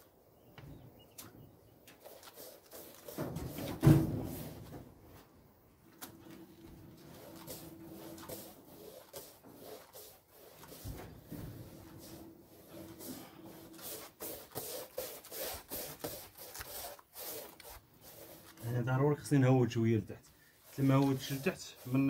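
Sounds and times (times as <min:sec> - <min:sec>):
paintbrush scraping on wall: 0:01.8 - 0:04.8, 0:05.9 - 0:22.0.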